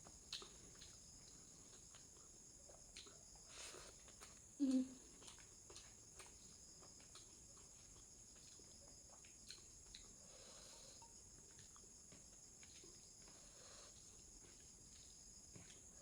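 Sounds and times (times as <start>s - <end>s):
soft chewing sounds: 0.0s - 16.0s.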